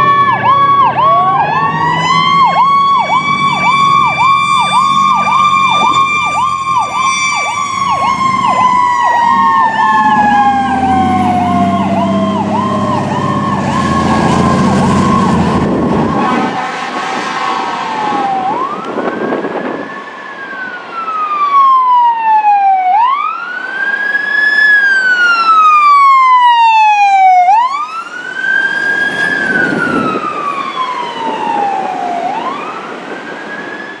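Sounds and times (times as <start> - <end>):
emergency siren wailing: 0.0 - 34.0.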